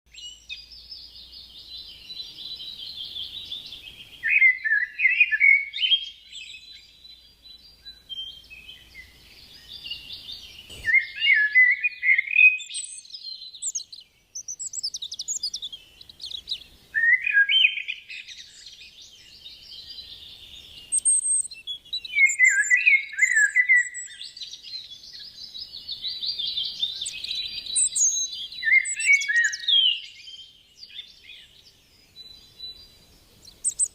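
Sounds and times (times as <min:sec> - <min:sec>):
birds chirping and twittering: 0:00.1 - 0:33.9.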